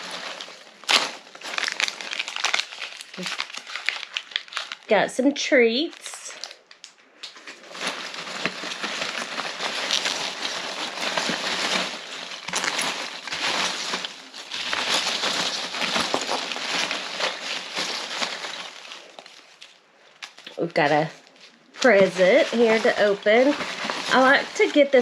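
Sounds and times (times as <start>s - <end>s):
paper packaging crinkling: 0.0s - 25.0s.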